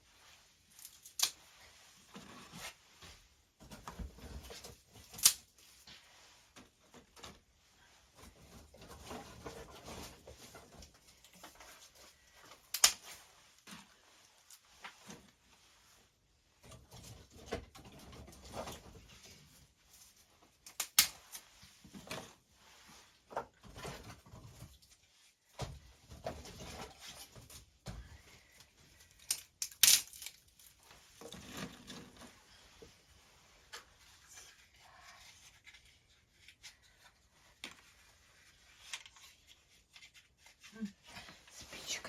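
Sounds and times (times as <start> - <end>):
rustling and shuffling: 0.0 - 42.0.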